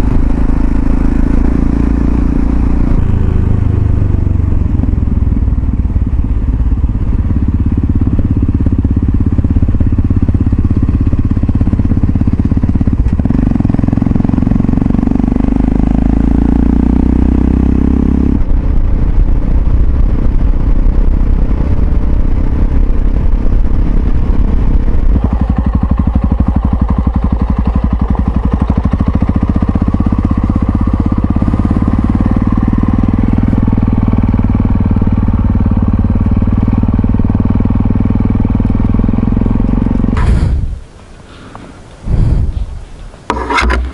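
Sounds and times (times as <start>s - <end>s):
motorcycle engine running: 0.0s - 41.1s.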